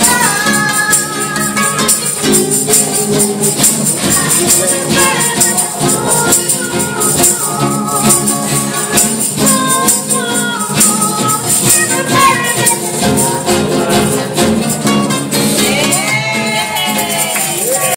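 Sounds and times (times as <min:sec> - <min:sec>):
acoustic guitar strumming: 0:00.0 - 0:17.9
person singing: 0:00.0 - 0:17.9.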